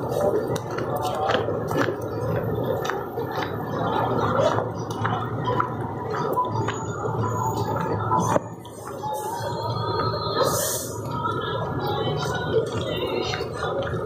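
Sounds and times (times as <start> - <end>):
crowd murmur: 0.0 - 14.0.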